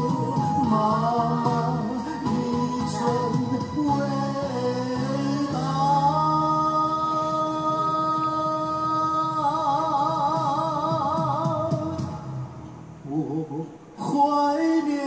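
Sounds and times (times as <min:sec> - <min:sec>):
man singing into a microphone: 0:00.0 - 0:12.3, 0:13.1 - 0:15.0
musical accompaniment: 0:00.0 - 0:14.2.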